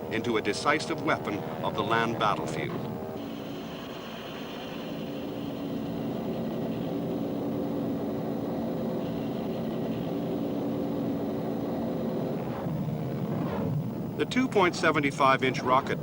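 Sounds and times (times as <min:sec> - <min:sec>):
helicopter engine drone: 0:00.0 - 0:16.0.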